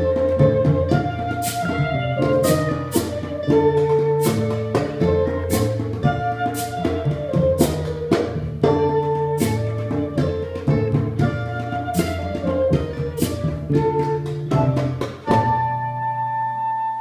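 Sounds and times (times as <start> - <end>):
drums struck with sticks: 0.0 - 15.5
cello: 0.0 - 17.0
flute melody: 0.0 - 17.0.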